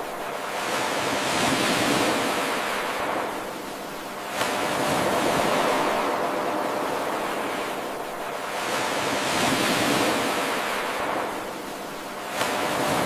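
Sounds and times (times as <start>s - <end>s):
ocean waves washing onto shore: 0.0s - 13.0s.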